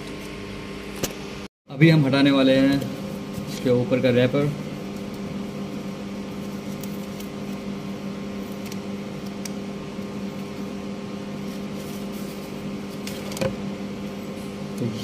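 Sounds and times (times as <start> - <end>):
mechanical hum with low drone: 0.0 - 15.0.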